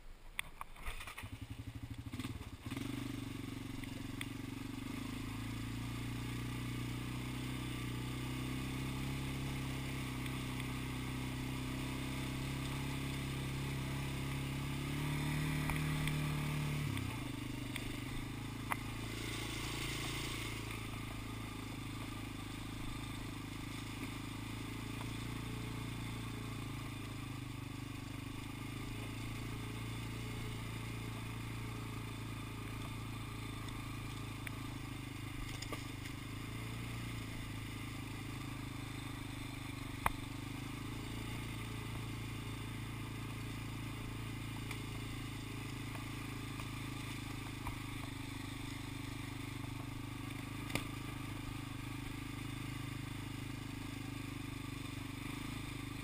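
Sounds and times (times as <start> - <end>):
single-cylinder engine running: 1.1 - 56.0.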